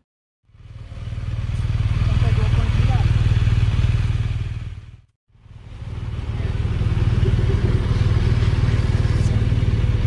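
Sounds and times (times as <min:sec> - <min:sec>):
engine idling: 0:00.5 - 0:10.0.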